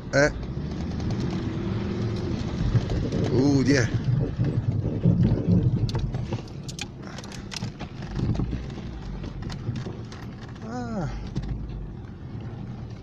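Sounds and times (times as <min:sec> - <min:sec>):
car engine and tyre rumble: 0:00.0 - 0:13.0
light clicks and rattles: 0:00.2 - 0:13.0.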